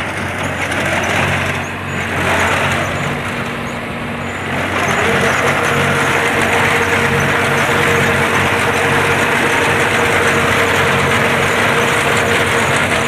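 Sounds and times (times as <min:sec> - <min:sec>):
steady whine: 0:00.0 - 0:13.0
tractor engine running: 0:00.0 - 0:13.0.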